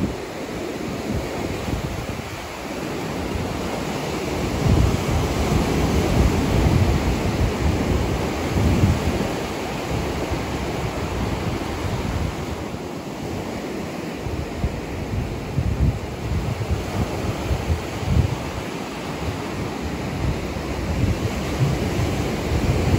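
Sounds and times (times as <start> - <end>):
ocean surf: 0.0 - 22.9
wind noise: 0.0 - 22.9.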